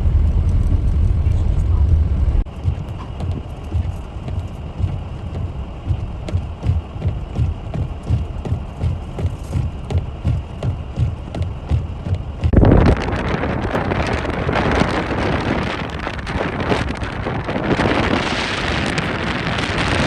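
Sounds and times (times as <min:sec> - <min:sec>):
low thumps: 0:00.0 - 0:16.2
noisy haze: 0:00.0 - 0:20.0.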